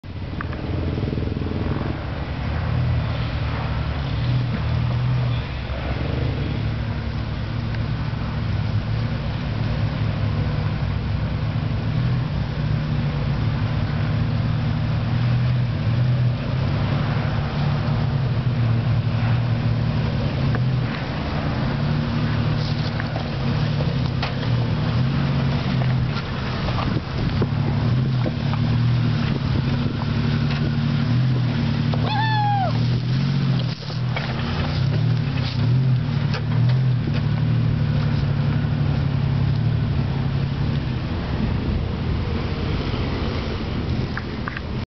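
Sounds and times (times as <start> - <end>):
engine running under load: 0.0 - 44.8.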